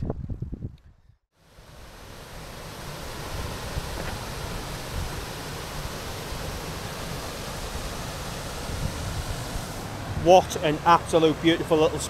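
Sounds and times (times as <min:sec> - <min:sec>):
waterfall rushing: 0:01.4 - 0:12.0.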